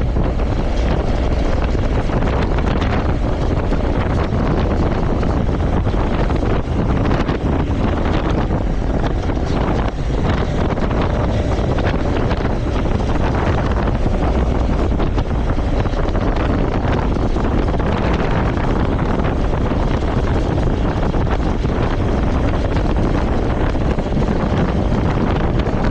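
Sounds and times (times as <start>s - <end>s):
motorcycle engine: 0.0s - 25.9s
road noise: 0.0s - 25.9s
wind rushing over microphone: 0.0s - 25.9s.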